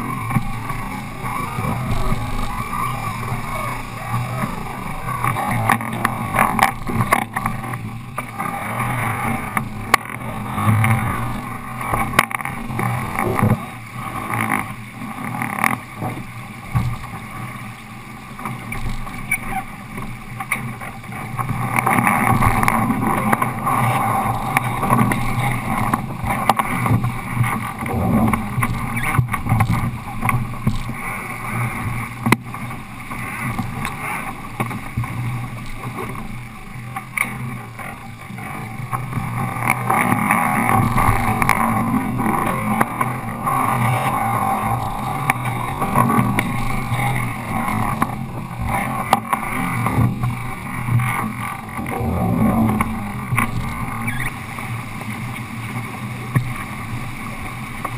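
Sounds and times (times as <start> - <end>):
rushing water noise: 0.0 - 57.9.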